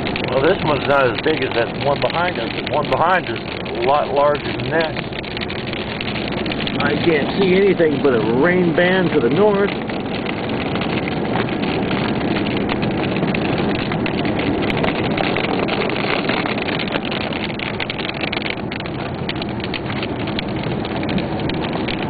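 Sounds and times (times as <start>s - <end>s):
rain ticking on car: 0.0s - 22.0s
tyres rushing on wet road: 0.0s - 22.0s
wind: 0.0s - 22.0s.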